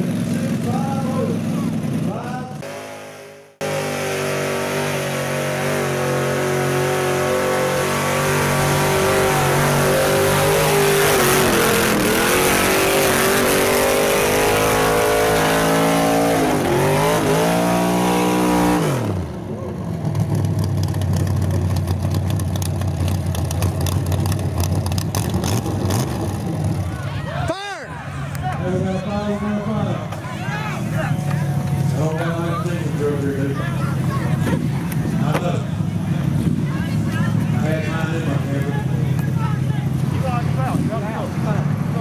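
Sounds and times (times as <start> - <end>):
rough engine crackling: 0.0 - 3.0, 4.7 - 27.4, 30.0 - 42.0
truck engine revving: 0.0 - 42.0.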